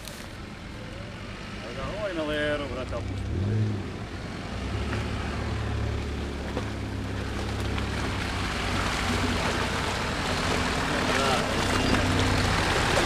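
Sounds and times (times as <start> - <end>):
tyres splashing through water: 1.2 - 13.0.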